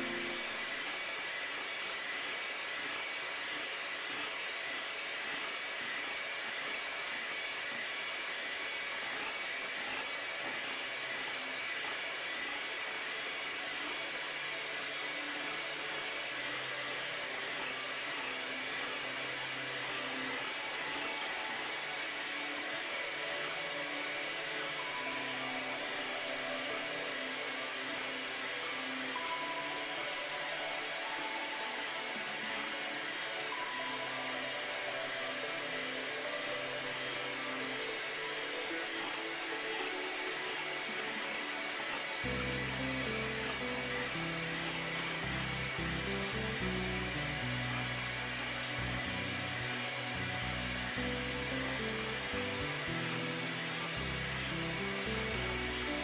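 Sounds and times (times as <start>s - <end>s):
electric hand mixer whipping eggs: 0.0s - 56.0s.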